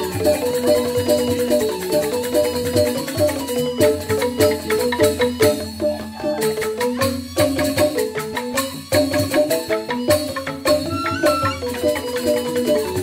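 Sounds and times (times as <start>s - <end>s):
bamboo xylophones playing fast melody: 0.0s - 13.0s
sharp percussion strokes: 0.0s - 13.0s.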